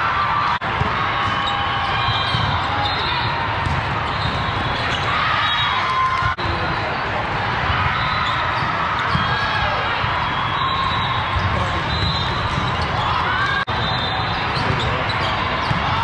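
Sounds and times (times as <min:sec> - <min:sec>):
crowd chatter: 0:00.0 - 0:16.0
volleyballs hit and bouncing: 0:00.4 - 0:16.0.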